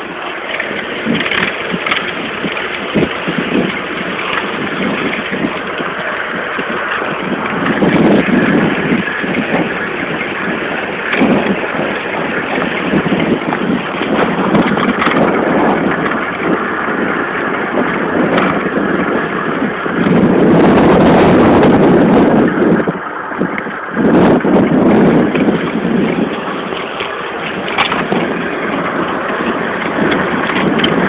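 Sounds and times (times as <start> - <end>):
road and tyre noise: 0.0 - 31.0
wind buffeting the microphone: 0.0 - 31.0.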